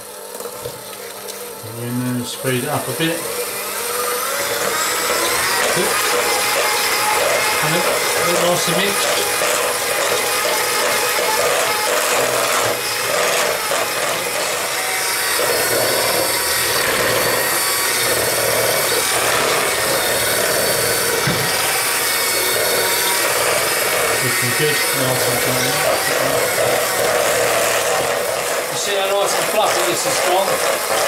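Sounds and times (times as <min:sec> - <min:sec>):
electric hand mixer whisking: 0:00.0 - 0:31.0.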